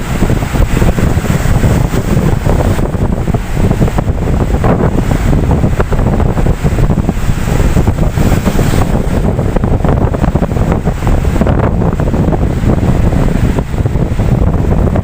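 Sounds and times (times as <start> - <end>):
ocean waves breaking: 0.0 - 15.0
wind buffeting microphone: 0.0 - 15.0.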